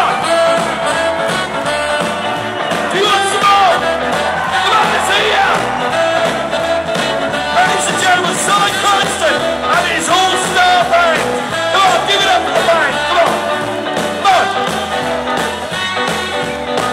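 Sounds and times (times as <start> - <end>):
rock and roll band playing: 0.0 - 16.9.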